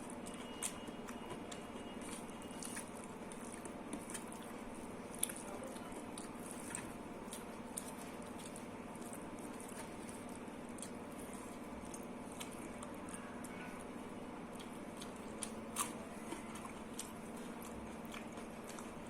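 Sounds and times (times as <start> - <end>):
low background hum: 0.0 - 19.0
wet chewing sounds: 0.0 - 19.0.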